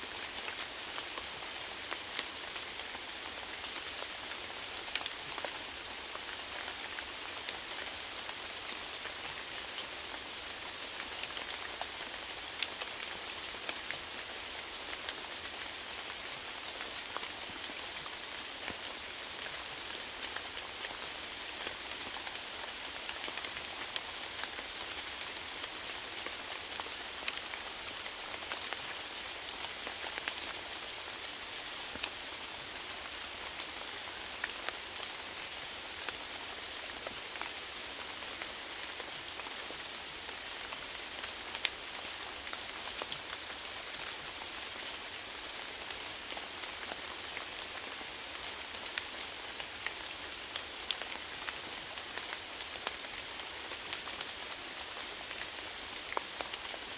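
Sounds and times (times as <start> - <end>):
rain drops pattering: 0.0 - 56.9.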